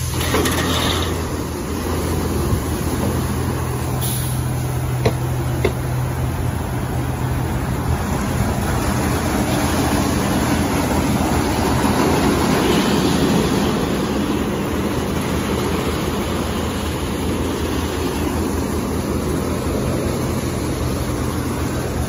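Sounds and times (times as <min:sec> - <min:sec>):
water spray: 0:00.0 - 0:22.0.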